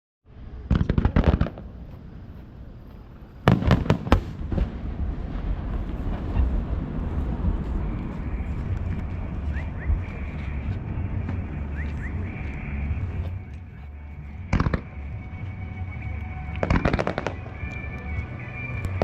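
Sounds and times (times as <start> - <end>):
low lingering rumble: 0.3 - 19.0
fireworks bursting with sharp bangs: 0.6 - 13.3, 14.5 - 15.0, 16.4 - 19.0.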